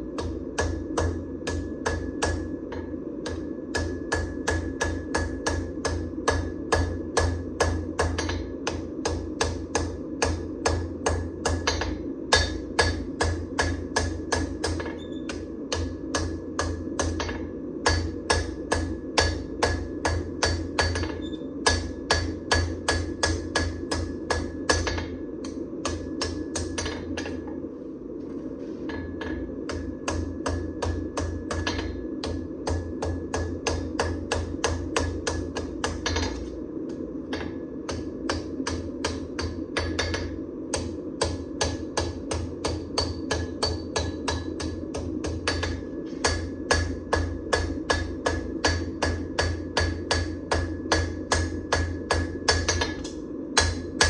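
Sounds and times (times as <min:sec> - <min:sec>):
hammer striking hot steel: 0:00.0 - 0:27.6, 0:28.8 - 0:54.0
steady hum: 0:00.0 - 0:54.0.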